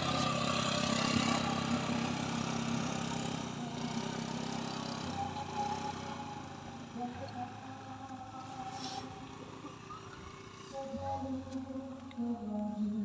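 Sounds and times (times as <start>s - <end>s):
scooter engine climbing a hill: 0.0s - 13.0s.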